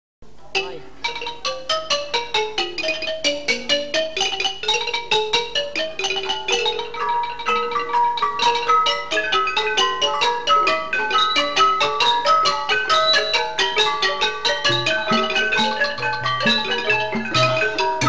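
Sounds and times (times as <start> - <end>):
xylophone melodic runs: 0.6 - 18.0.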